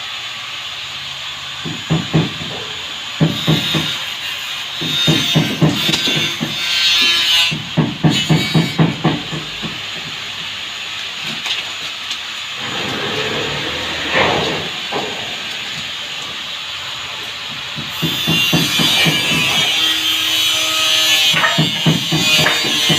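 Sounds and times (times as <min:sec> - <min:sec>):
hiss: 0:00.0 - 0:22.9.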